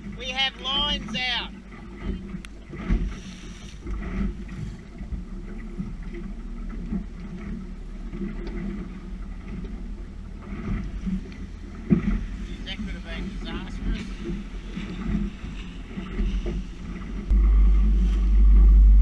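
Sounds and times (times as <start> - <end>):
water against boat hull: 0.0 - 19.0
wind: 0.0 - 19.0.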